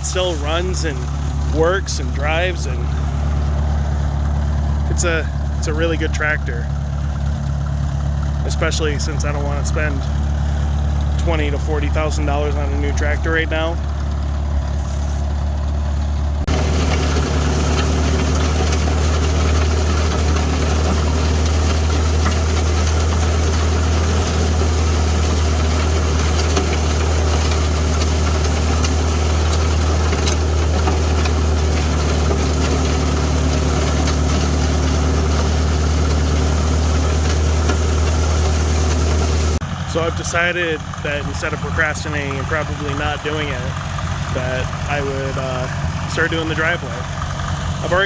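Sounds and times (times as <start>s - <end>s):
tractor engine droning: 0.0s - 48.0s.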